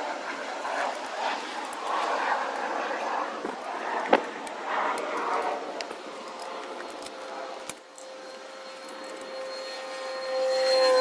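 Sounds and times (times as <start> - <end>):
steady humming tone: 0.0 - 11.0.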